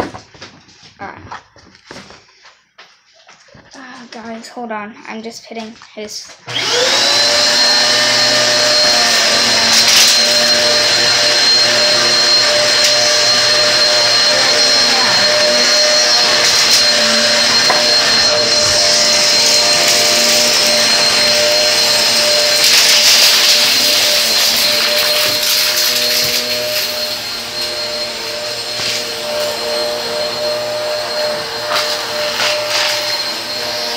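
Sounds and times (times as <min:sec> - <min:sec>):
vacuum cleaner running: 0:06.5 - 0:33.9.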